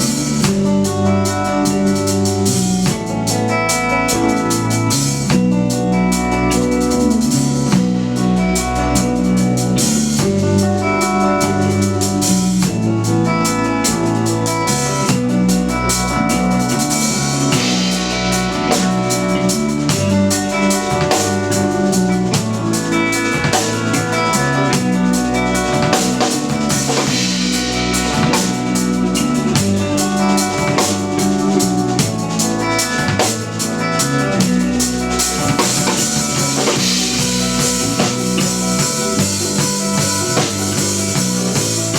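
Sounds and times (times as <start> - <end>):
drum kit playing: 0.0 - 41.9
electric bass line: 0.0 - 41.9
electric guitar sustained notes: 0.0 - 41.9.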